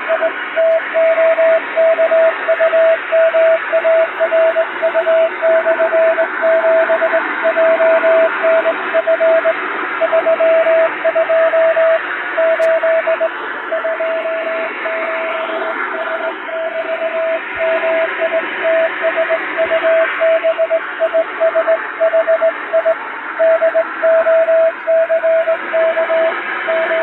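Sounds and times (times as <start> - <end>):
morse code beeps: 0.0 - 27.0.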